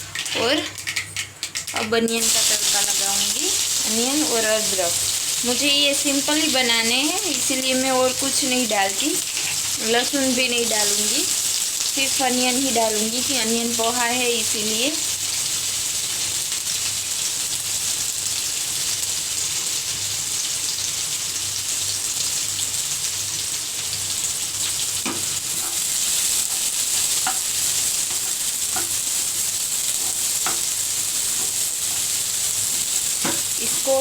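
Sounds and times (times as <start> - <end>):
onion sizzling in hot oil: 0.0 - 34.0.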